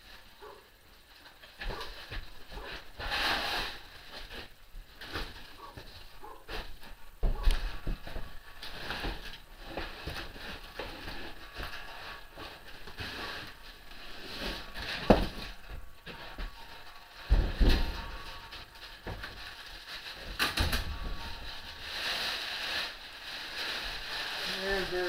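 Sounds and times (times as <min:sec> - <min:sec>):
packaging and metal parts handled: 0:00.0 - 0:25.0.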